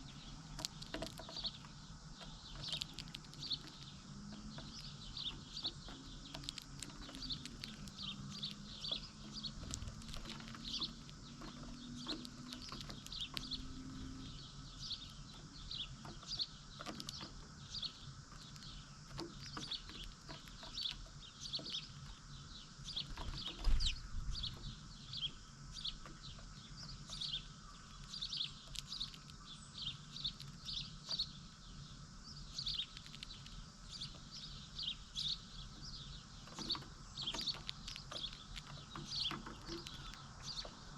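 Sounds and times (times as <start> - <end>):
flock of small birds chirping: 0.0 - 40.9.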